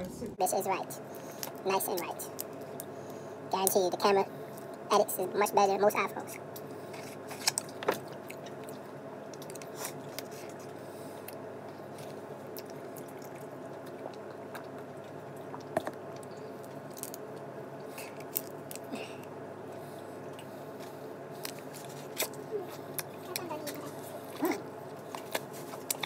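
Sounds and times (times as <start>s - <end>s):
low background hum: 0.0s - 26.0s
wet chewing: 1.1s - 3.0s, 6.2s - 26.0s.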